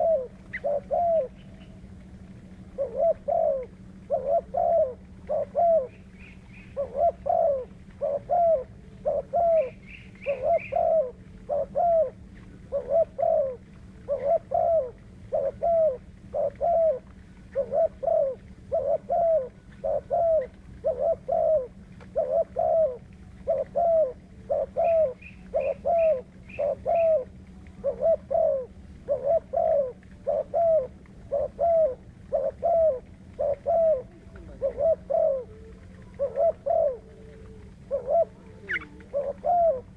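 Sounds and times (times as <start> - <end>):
dove cooing: 0.0 - 39.9
steady low hum: 0.0 - 39.9.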